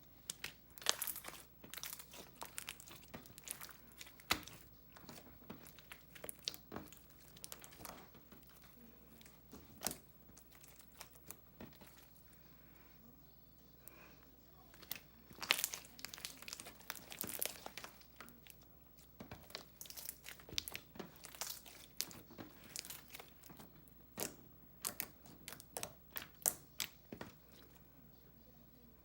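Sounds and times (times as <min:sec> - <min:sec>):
slime squished by hand: 0:00.2 - 0:12.4, 0:14.7 - 0:27.8.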